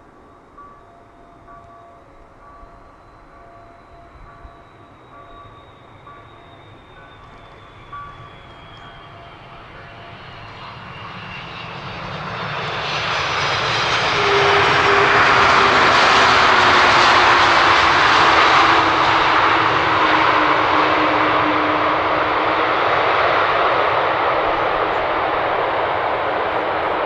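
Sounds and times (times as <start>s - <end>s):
jet engine whine: 0.0s - 27.0s
jet airliner passing: 5.0s - 27.0s.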